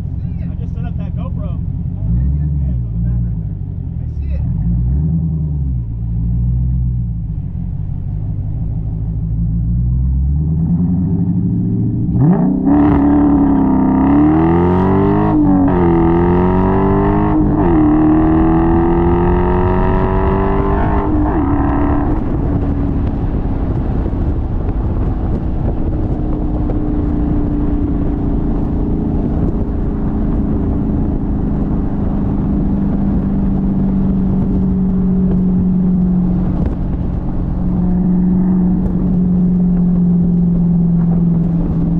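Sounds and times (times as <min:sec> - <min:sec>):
car engine accelerating hard: 0:00.0 - 0:41.9.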